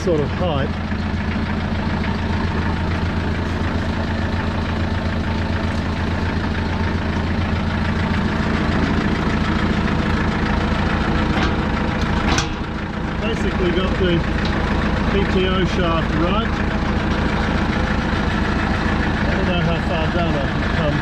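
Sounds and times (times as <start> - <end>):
concrete mixer turning: 0.0 - 21.0
tractor engine running: 0.0 - 21.0.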